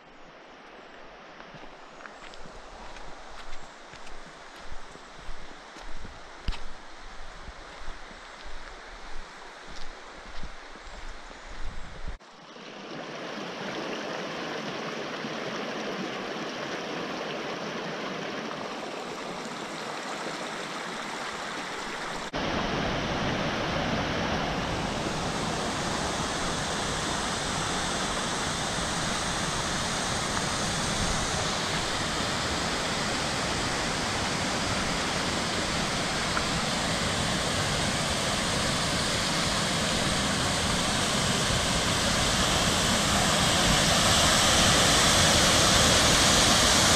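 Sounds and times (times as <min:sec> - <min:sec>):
creek and waterfall rushing: 0:00.0 - 0:46.9.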